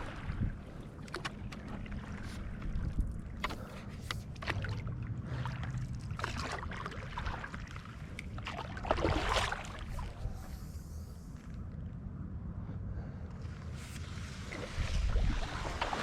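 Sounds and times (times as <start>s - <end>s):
water splashing and sloshing: 0.0s - 12.5s, 13.3s - 16.0s
steady low rumble: 0.0s - 16.0s.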